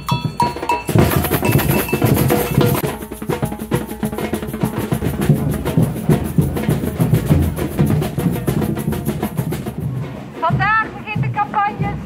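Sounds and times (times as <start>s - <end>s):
drum percussion music: 0.0s - 12.0s.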